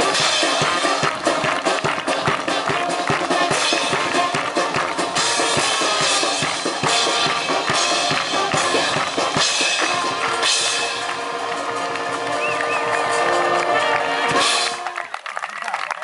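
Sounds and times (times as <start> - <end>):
bass drum and snare beating: 0.0 - 13.2
band playing: 0.0 - 15.4.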